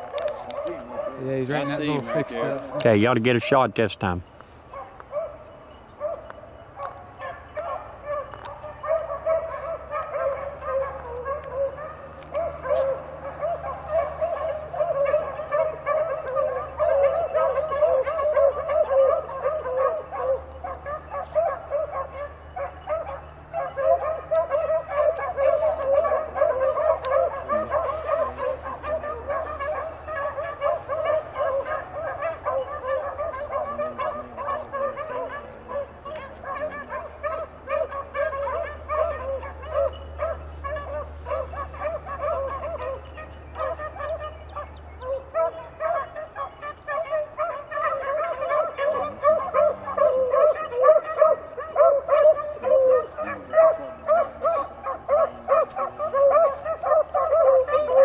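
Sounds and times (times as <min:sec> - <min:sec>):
hounds baying in chorus: 0:00.0 - 0:58.0.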